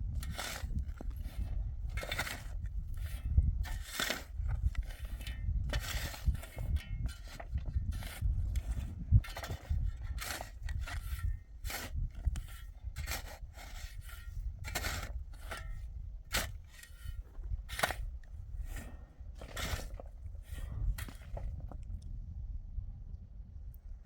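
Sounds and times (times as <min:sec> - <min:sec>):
scraping strokes: 0:00.1 - 0:21.8.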